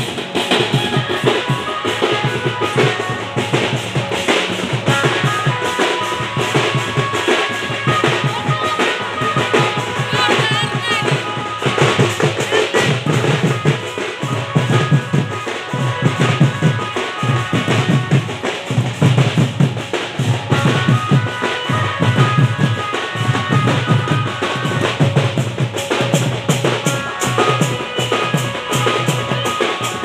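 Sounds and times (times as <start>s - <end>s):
drums beating dance rhythm: 0.0s - 30.0s.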